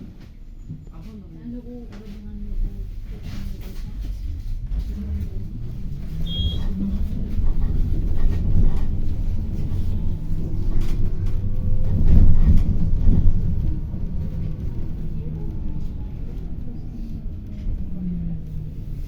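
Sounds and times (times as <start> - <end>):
bus drivetrain and road rumble: 0.0 - 19.0.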